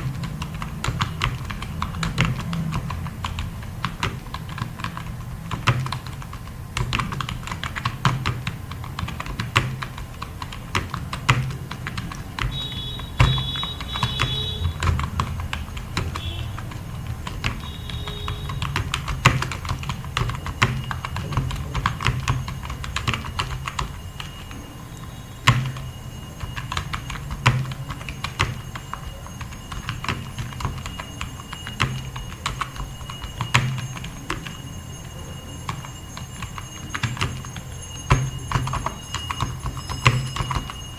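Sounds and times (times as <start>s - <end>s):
fast typing on a keyboard: 0.0s - 40.9s.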